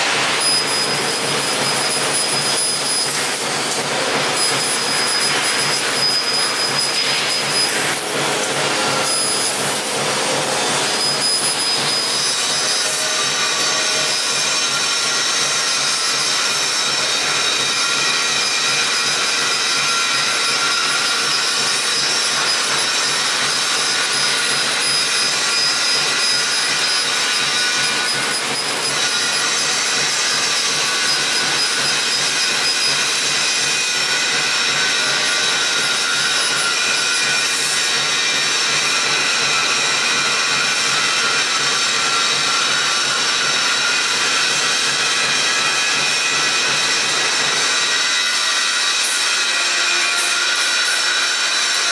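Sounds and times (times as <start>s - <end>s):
laser cutter hiss and whine: 0.0s - 51.9s.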